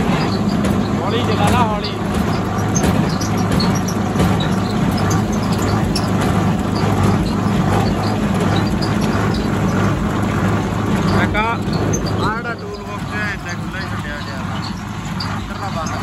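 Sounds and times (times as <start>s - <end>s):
baler clicking: 0.0s - 16.0s
tractor engine droning: 0.0s - 16.0s.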